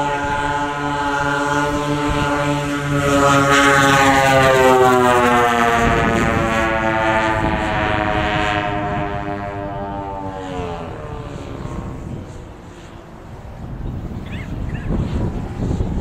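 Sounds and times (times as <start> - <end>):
model airplane propeller drone: 0.0 - 16.0.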